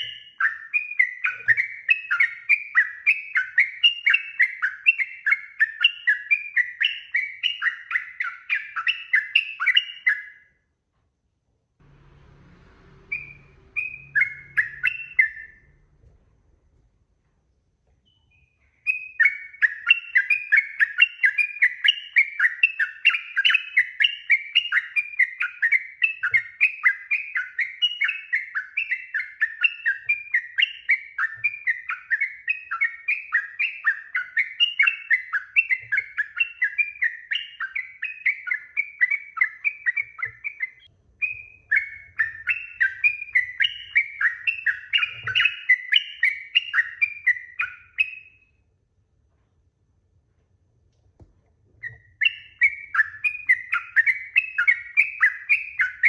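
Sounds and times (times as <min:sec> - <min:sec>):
bird singing rapid notes: 0:00.0 - 0:10.5, 0:12.0 - 0:15.9, 0:18.0 - 0:48.5, 0:51.8 - 0:56.0.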